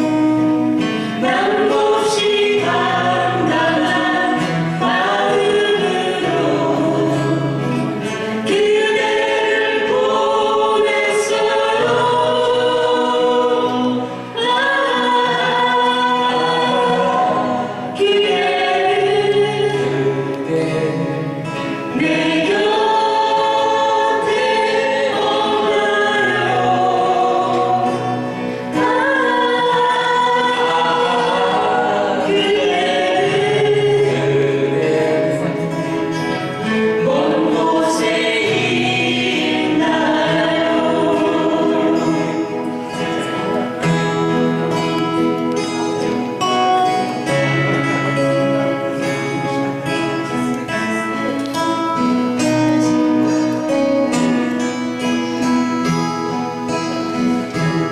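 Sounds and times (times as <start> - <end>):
acoustic guitar strumming: 0.0 - 57.9
voices singing together: 0.0 - 57.9.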